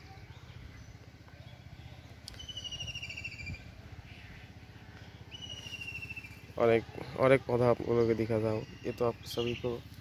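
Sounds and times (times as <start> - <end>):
faint low rumble: 0.0 - 8.9
songbird trill: 0.0 - 10.0.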